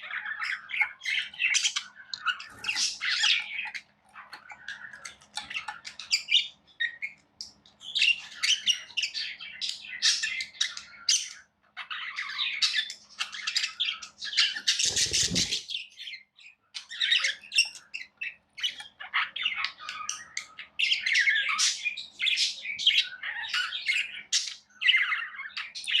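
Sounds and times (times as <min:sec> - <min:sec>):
parrots chirping and chattering: 0:00.0 - 0:26.0.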